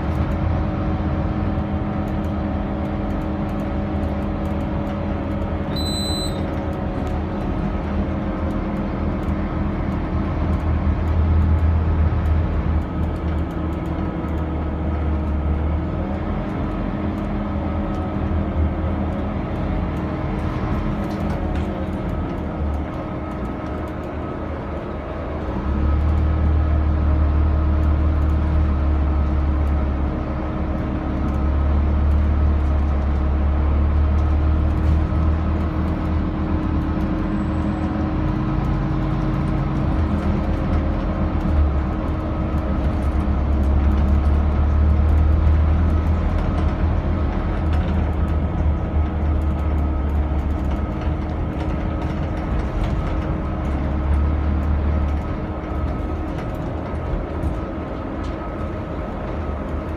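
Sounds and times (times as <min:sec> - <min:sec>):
bus engine low drone: 0:00.0 - 0:59.9.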